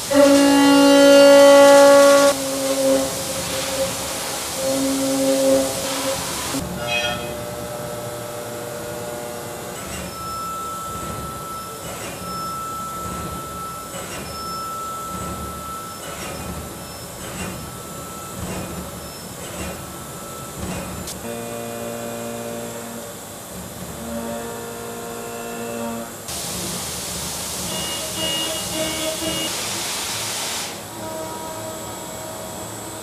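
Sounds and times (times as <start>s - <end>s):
high machining whine: 0.0s - 33.0s
milling machine cutting metal: 0.0s - 33.0s.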